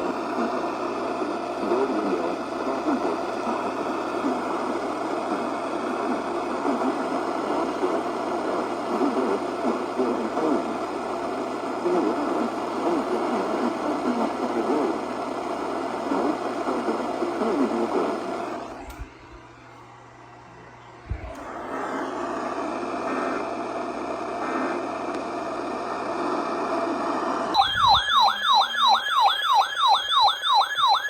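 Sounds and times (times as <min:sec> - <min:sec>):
radio static hiss: 0:00.0 - 0:19.1, 0:21.0 - 0:28.2.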